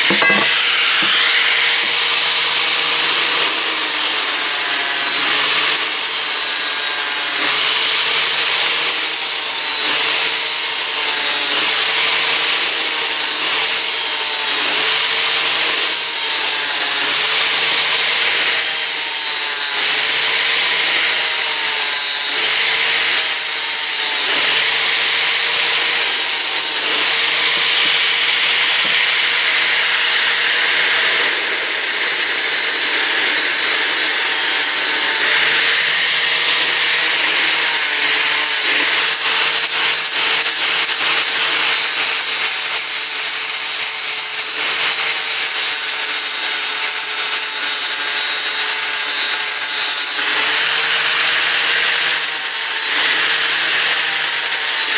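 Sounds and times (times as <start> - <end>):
power tool stripping paint off pipe: 0.0 - 54.9.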